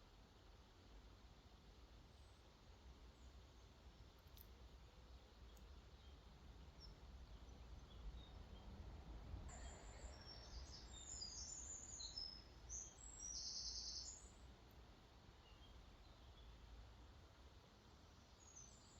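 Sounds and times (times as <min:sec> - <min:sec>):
songbird singing: 0:02.1 - 0:18.9.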